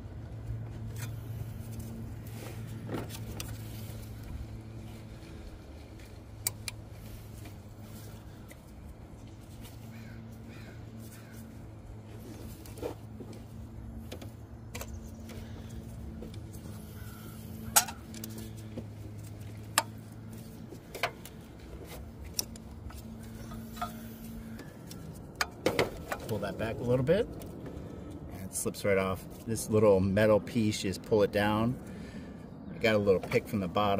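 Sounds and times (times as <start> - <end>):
low hum: 0.0 - 33.8.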